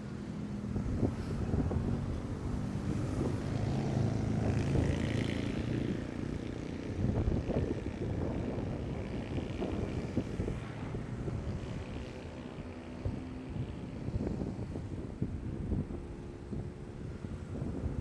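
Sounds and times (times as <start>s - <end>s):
vehicle engines passing: 0.0s - 15.0s.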